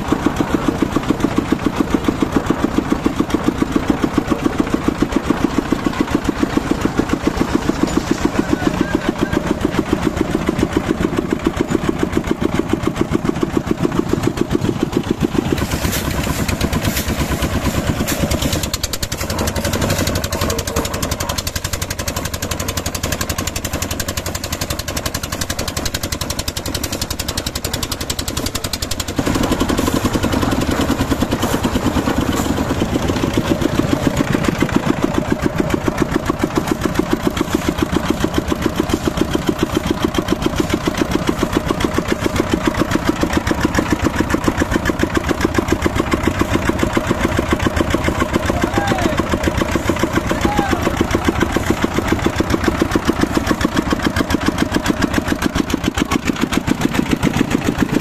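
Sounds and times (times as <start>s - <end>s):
small engines running: 0.0s - 58.0s.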